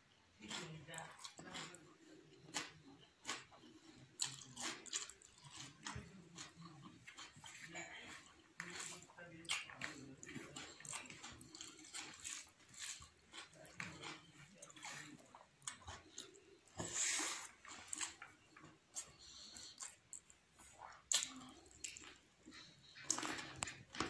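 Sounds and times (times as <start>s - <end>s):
wet chewing and lip-smacking: 0.4s - 24.0s.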